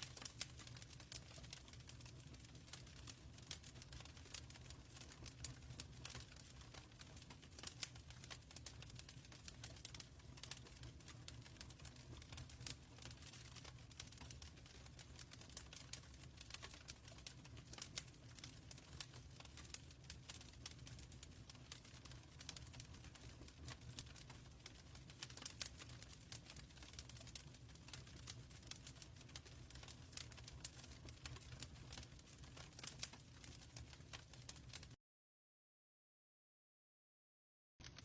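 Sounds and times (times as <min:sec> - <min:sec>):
fireplace fire crackling: 0:00.0 - 0:35.0.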